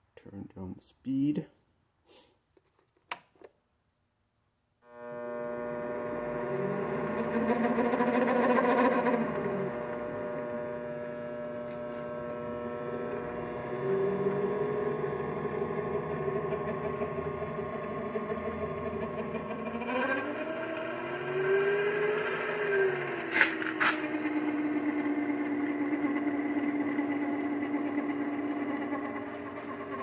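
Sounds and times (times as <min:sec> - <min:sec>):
lathe motor whine: 0:04.9 - 0:30.0.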